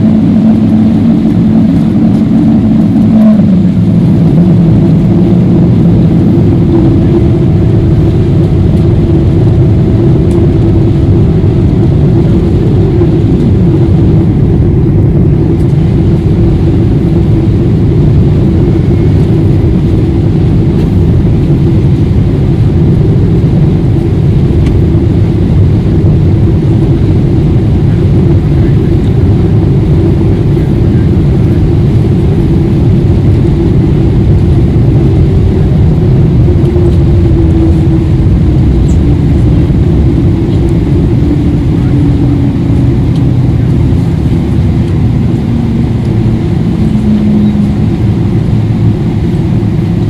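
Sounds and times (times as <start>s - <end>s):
airplane cabin airflow and engines: 0.0s - 50.0s
faint steady hum: 0.0s - 50.0s.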